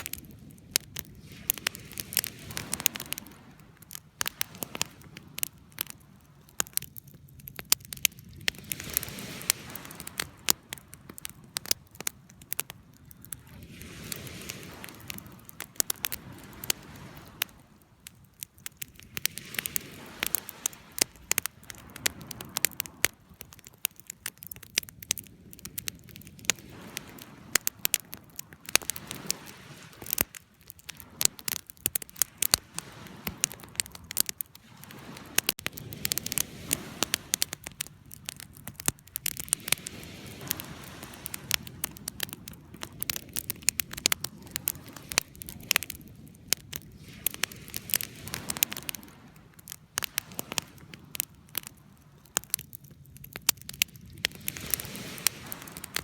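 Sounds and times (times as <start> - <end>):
soft rush of flame: 0.0 - 56.0
wood crackling and popping: 0.0 - 56.0.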